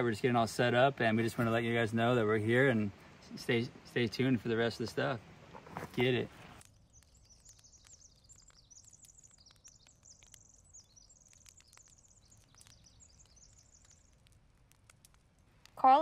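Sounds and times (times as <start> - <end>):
songbird chirps and trills: 0.0 - 16.0.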